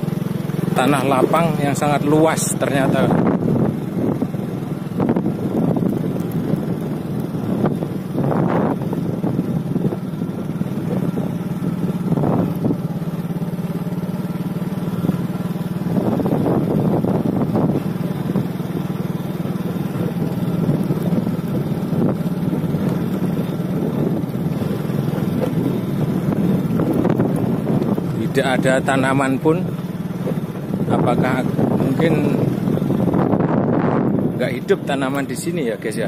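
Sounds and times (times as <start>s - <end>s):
small motorcycle engine running: 0.0s - 36.0s.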